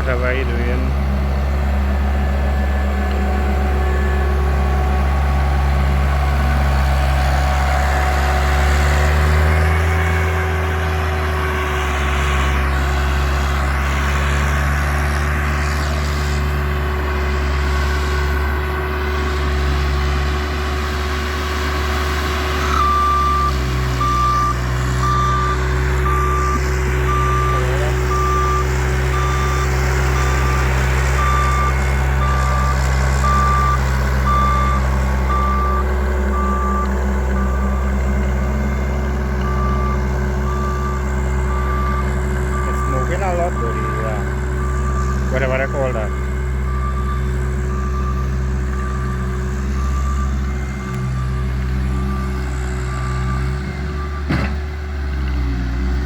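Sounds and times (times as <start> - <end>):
loader engine running: 0.0 - 56.0
reversing alarm beeping: 0.0 - 56.0.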